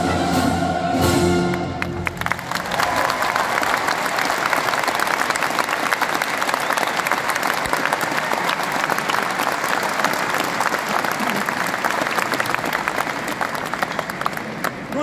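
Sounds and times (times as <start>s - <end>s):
audience applauding: 1.5s - 15.0s.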